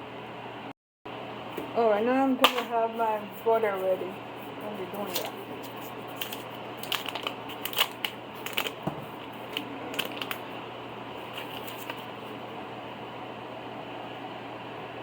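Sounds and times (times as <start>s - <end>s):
steady low background hum: 0.0s - 15.0s.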